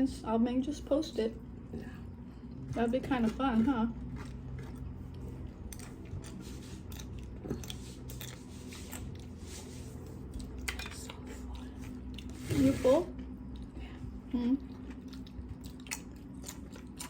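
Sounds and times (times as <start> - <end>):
chewing and crunching food: 1.1 - 17.0.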